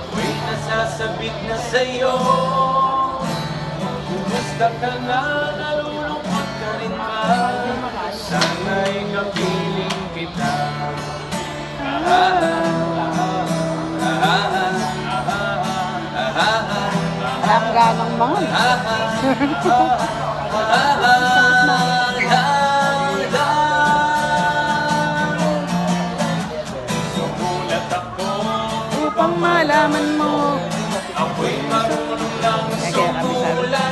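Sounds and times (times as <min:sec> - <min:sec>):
acoustic guitar strumming: 0:00.0 - 0:33.9
man singing: 0:00.0 - 0:33.9.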